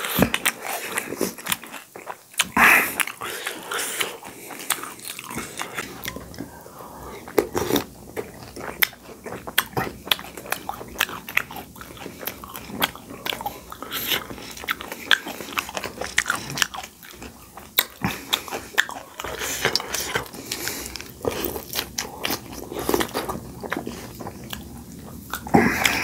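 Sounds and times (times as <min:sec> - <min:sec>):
wet chewing: 0:00.0 - 0:26.0.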